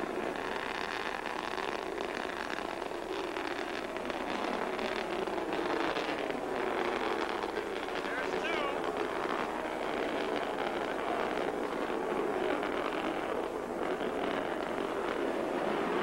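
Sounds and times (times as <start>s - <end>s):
rocket motor roaring: 0.0s - 16.0s.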